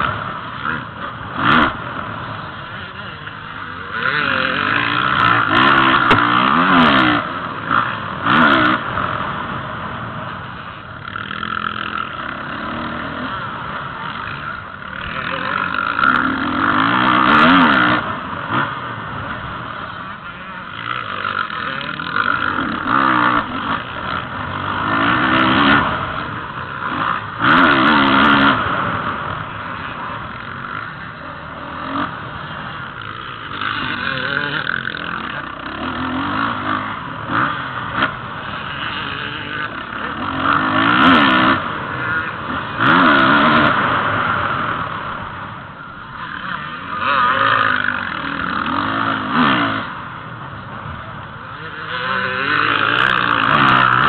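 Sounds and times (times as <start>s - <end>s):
dirt bikes revving: 0.0s - 54.0s.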